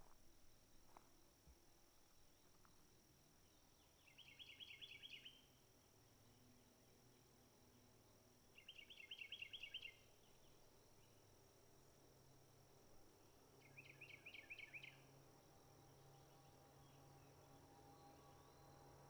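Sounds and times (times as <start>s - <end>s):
high-pitched insect hum: 0.0s - 19.0s.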